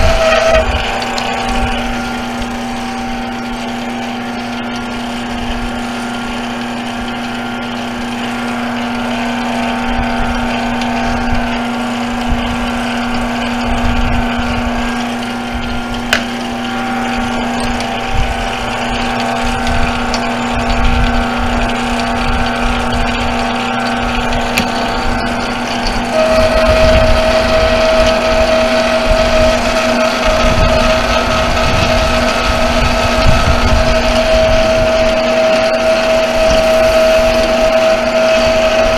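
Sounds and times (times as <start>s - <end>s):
boring bar cutting metal: 0.0s - 38.9s
high steady whine: 0.0s - 38.9s
lathe motor hum: 0.0s - 38.9s.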